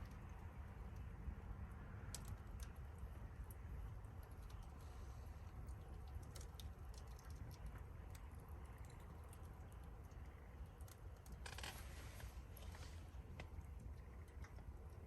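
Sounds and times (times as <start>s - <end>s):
low fire rumble: 0.0s - 15.0s.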